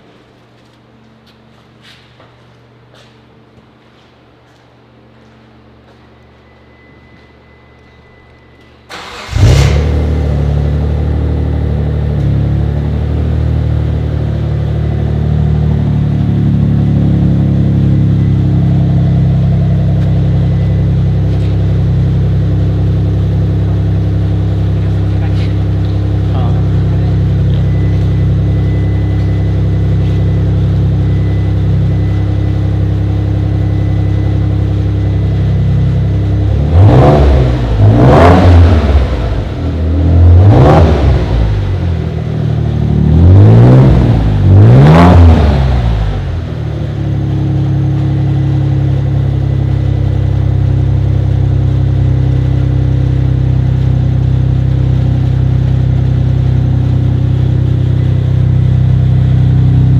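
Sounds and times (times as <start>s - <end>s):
car engine idling: 8.9s - 59.9s
car engine revving: 8.9s - 59.9s.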